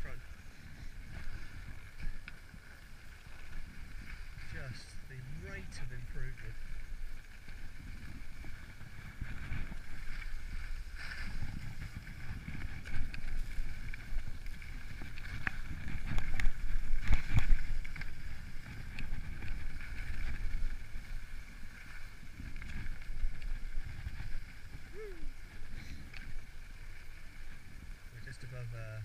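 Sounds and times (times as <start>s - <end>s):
wind on microphone: 0.0s - 28.2s
skis scraping on snow: 0.0s - 29.0s.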